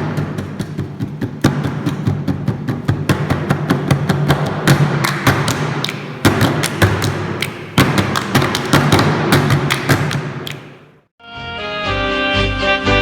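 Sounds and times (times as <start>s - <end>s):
rapid percussive strikes: 0.0s - 10.9s.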